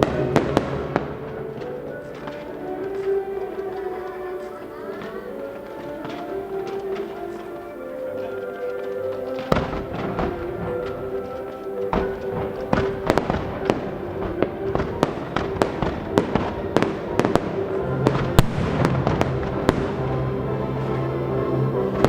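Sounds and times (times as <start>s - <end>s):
fireworks bangs and cracks: 0.0s - 7.5s, 8.2s - 20.4s
classical orchestral music: 0.0s - 22.0s.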